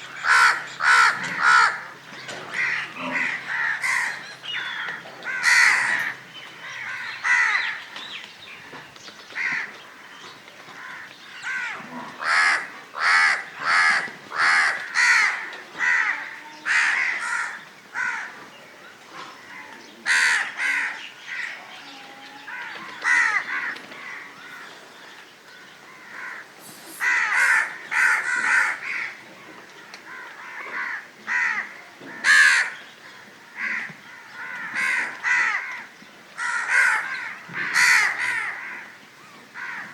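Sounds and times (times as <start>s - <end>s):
crows cawing: 0.1s - 8.2s, 9.3s - 18.5s, 19.4s - 21.6s, 22.5s - 24.9s, 25.6s - 39.9s.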